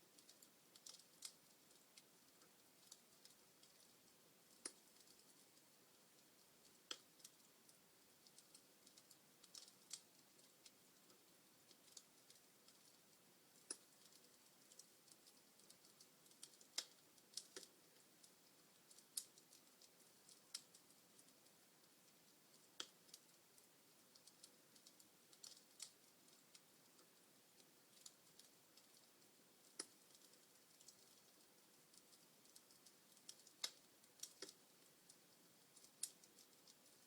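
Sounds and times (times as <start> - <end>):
log fire crackling: 0.0 - 37.0
soft hiss: 0.0 - 37.0.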